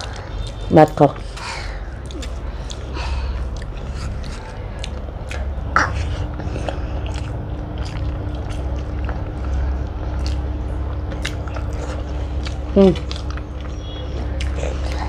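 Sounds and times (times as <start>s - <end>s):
chewing and mouth smacks: 0.0s - 15.0s
steady low hum: 0.0s - 15.0s.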